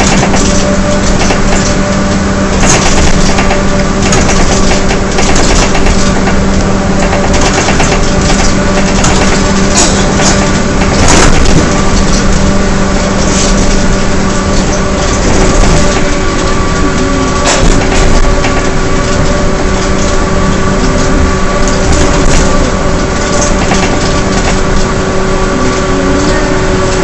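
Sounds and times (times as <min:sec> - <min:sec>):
bus engine drone and howl: 0:00.0 - 0:27.0
loud road noise: 0:00.0 - 0:27.0
rattles and knocks: 0:00.0 - 0:27.0.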